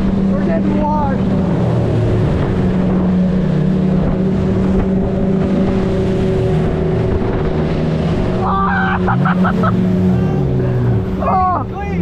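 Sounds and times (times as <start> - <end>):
outboard motors running flat out: 0.0 - 12.0.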